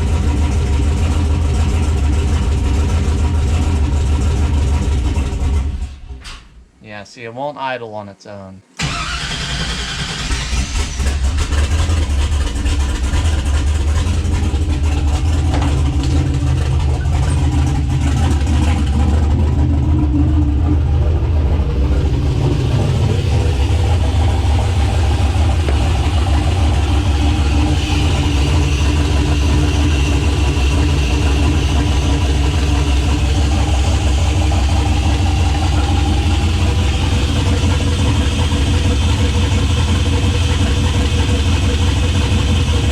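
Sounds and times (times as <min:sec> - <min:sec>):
car engine running: 0:00.0 - 0:06.0, 0:08.8 - 0:42.9.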